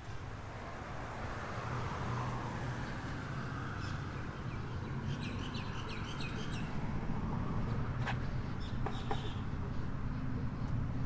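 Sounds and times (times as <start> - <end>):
low traffic hum: 0.0 - 11.0.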